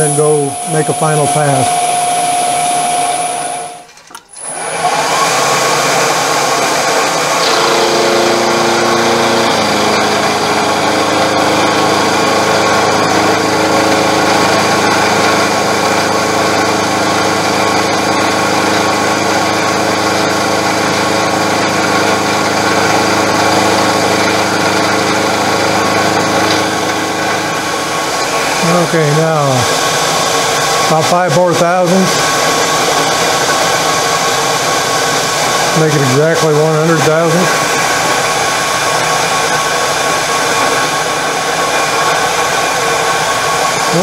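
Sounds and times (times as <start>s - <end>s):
milling machine hum and whine: 0.0s - 44.0s.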